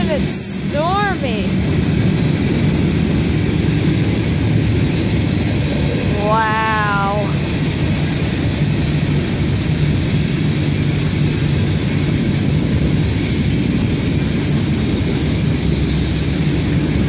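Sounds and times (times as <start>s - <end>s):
freight wheels rumbling on rails: 0.0s - 17.0s.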